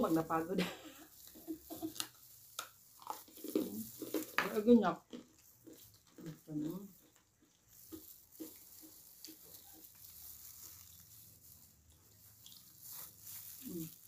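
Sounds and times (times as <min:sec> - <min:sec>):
wet chewing: 0:00.9 - 0:14.0.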